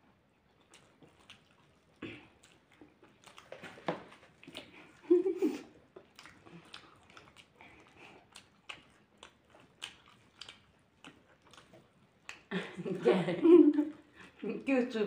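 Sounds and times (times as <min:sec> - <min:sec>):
chewing and lip-smacking: 0:00.0 - 0:13.1, 0:13.8 - 0:14.6.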